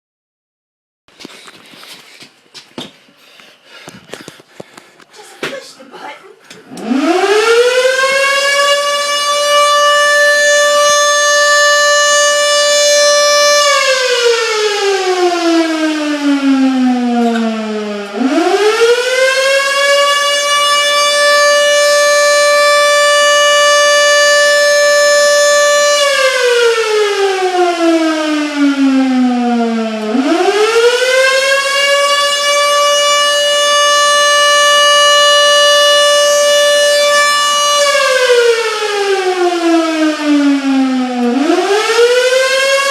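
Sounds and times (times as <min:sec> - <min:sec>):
outdoor warning siren wailing: 0:06.7 - 0:42.9.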